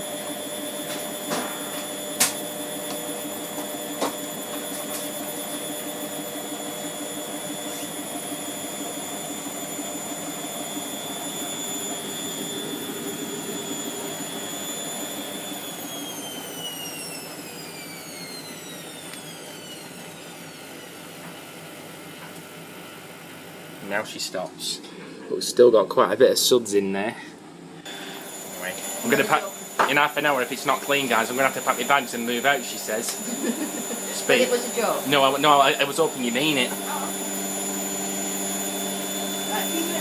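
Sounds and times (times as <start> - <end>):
washing machine motor whine: 0.0 - 40.0.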